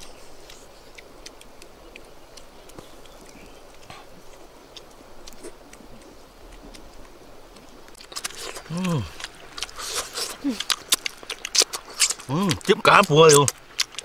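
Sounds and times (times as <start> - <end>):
people chewing and lip-smacking: 0.0 - 14.0.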